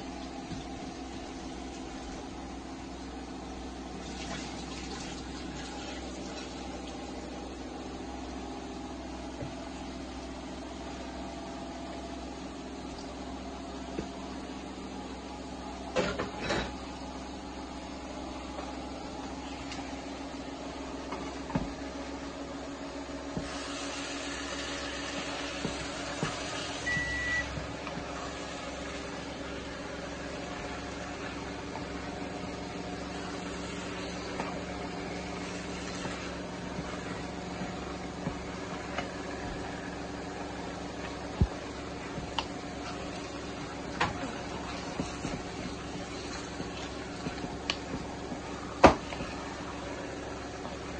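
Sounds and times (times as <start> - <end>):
low kitchen hum: 0.0 - 50.9.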